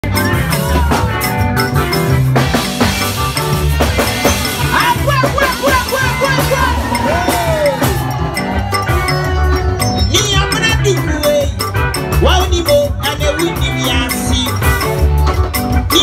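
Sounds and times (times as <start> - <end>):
bass and drum beat: 0.0 - 16.0.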